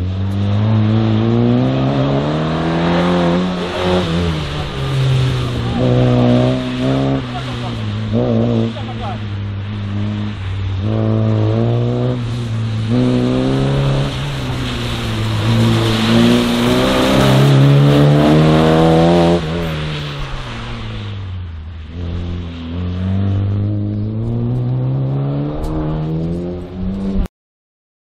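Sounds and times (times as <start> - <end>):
car engine revving hard: 0.0 - 21.2, 21.9 - 27.3.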